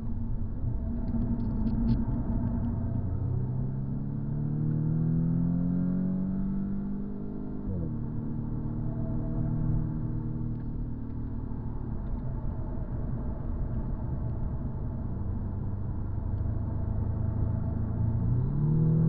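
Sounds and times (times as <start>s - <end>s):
car engine: 0.0s - 19.0s
road rumble: 0.0s - 19.0s.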